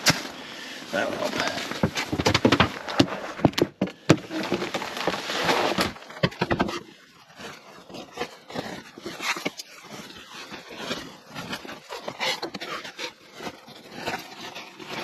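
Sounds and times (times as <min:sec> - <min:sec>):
snow crunching and scraping: 0:00.0 - 0:15.0.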